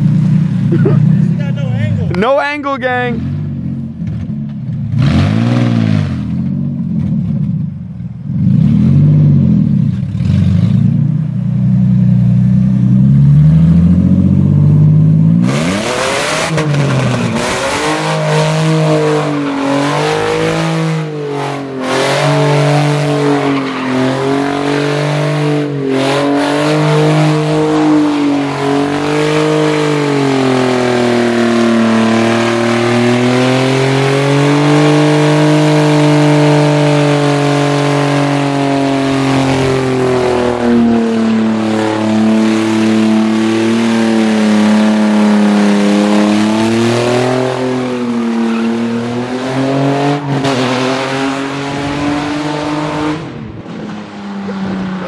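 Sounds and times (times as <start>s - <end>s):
car engine at high revs: 0.0s - 55.0s.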